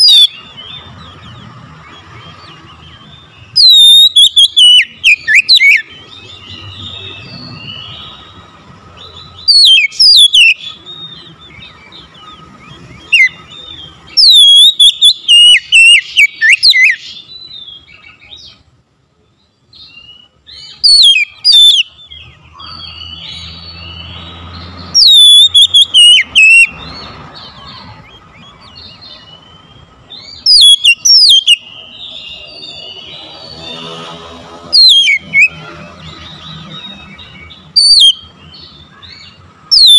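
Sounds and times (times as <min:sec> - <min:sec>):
bird singing high whistles: 0:00.0 - 0:01.3, 0:02.0 - 0:18.3, 0:19.7 - 0:26.8, 0:28.8 - 0:34.0, 0:34.7 - 0:39.9
bird twittering: 0:00.0 - 0:18.6, 0:19.4 - 0:39.9.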